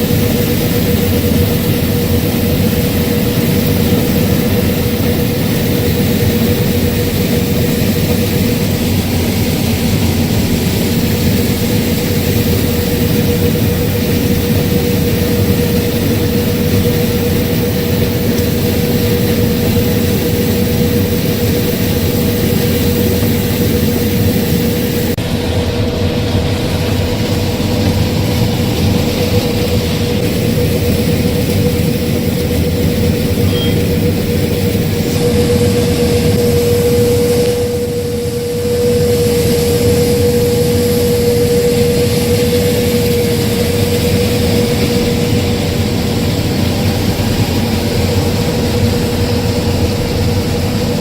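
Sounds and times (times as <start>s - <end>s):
combine harvester droning: 0.0s - 51.0s.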